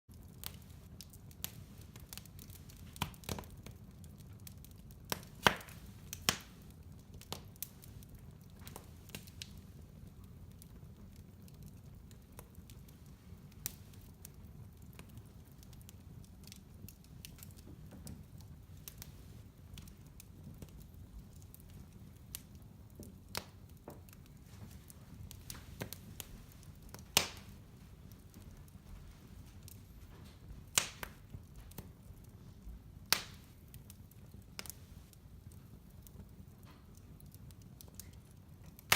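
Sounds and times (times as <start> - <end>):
low steady fire rumble: 0.1 - 38.9
wood fire crackling: 0.1 - 38.9.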